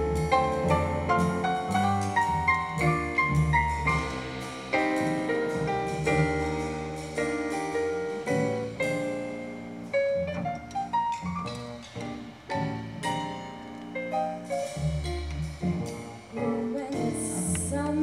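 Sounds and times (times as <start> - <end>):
instrumental piano music: 0.0 - 18.0.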